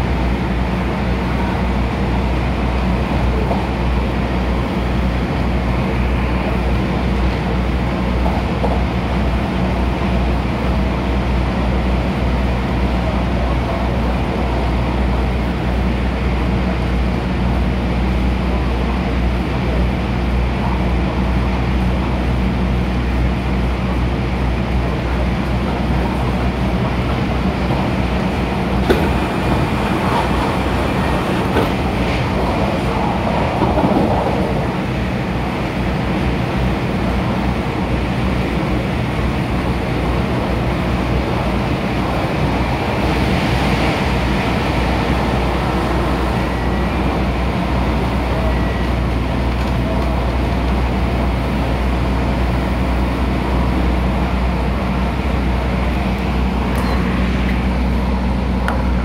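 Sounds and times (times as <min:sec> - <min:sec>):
train rumble from inside carriage: 0:00.0 - 0:59.0.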